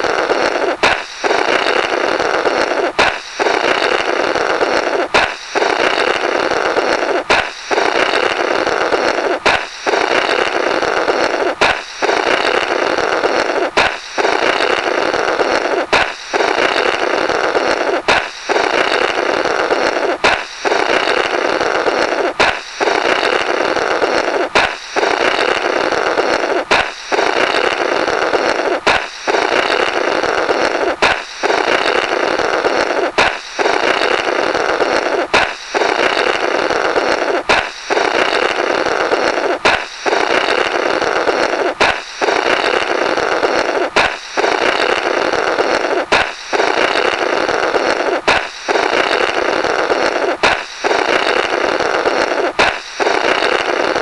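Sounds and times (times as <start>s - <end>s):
balloon pop: 0.0s - 25.6s, 26.2s - 27.8s, 28.4s - 32.1s, 32.7s - 34.3s, 34.9s - 49.4s, 50.2s - 51.6s, 52.2s - 53.8s
comical blow through rubber: 0.0s - 54.0s.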